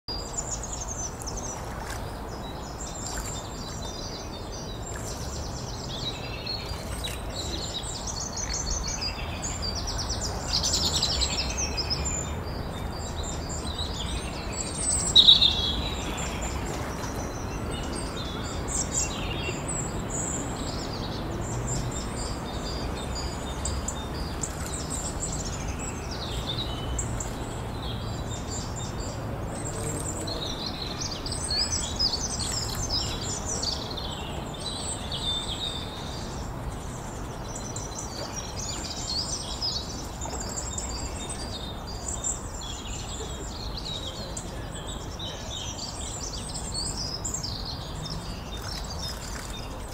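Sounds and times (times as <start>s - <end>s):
steady low background noise: 0.1s - 49.9s.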